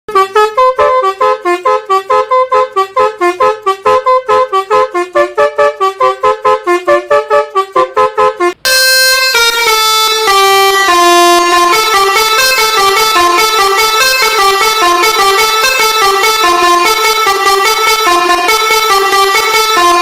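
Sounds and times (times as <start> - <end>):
musical air horn playing tune: 0.1 - 20.0.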